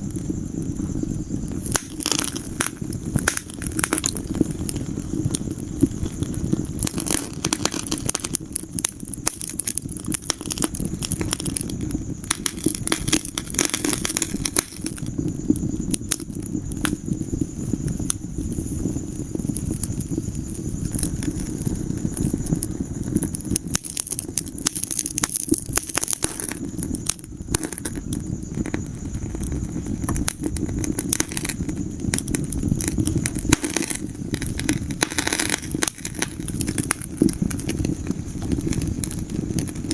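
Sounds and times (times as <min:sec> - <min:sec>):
low rumble of flames: 0:00.0 - 0:39.9
wood fire snaps: 0:00.0 - 0:39.9.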